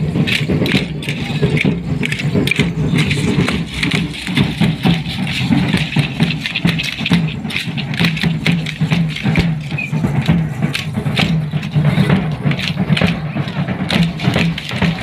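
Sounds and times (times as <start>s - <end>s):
percussion clicks and rattles: 0.0s - 15.0s.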